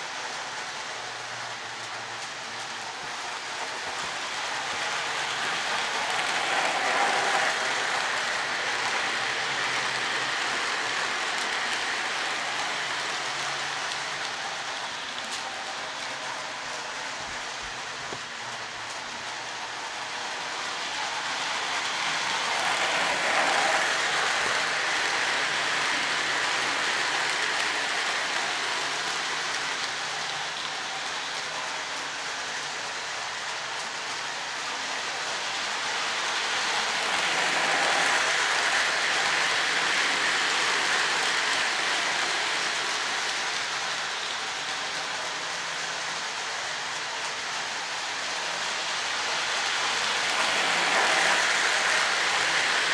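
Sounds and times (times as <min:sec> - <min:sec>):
model train wheels rumbling on rails: 0:00.0 - 0:52.9.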